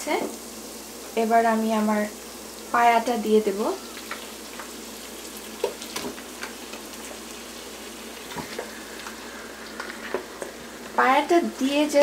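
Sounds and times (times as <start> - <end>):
sizzling in oil: 0.0 - 12.0.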